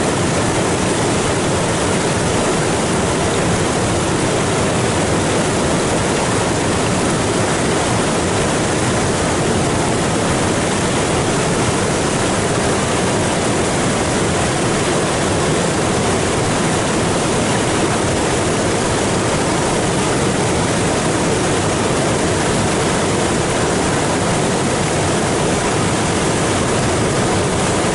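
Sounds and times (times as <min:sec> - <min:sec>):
water rushing over waterfall: 0:00.0 - 0:27.9.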